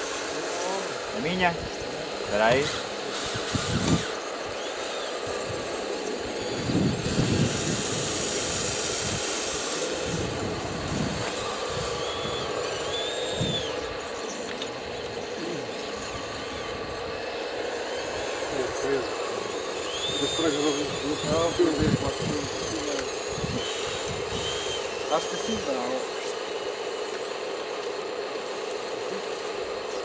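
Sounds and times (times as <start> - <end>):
hydraulic hiss: 0.0 - 30.0
motor and pump whine: 0.0 - 30.0
rising and falling whines: 0.0 - 30.0.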